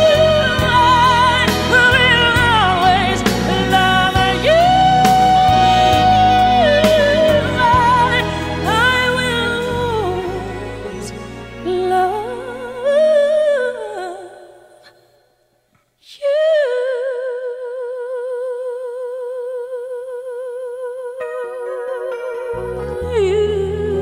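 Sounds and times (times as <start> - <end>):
solo vocal line: 0.0 - 15.2, 16.0 - 24.0.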